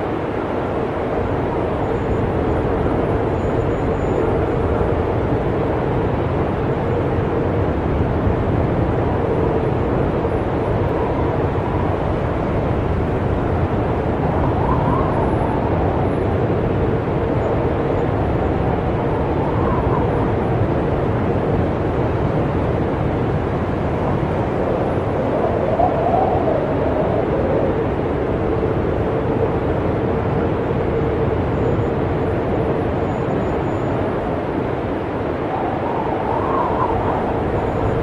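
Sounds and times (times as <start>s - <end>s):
blizzard wind rushing: 0.0s - 38.0s
faint wind howl: 0.0s - 38.0s.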